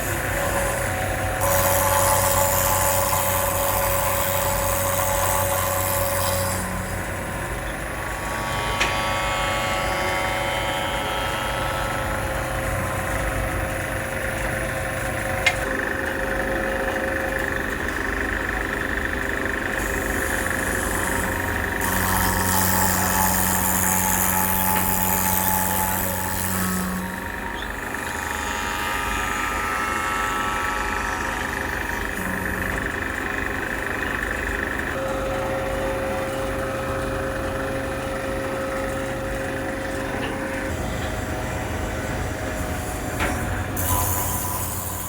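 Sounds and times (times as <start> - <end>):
woodworking machinery running: 0.0 - 45.0.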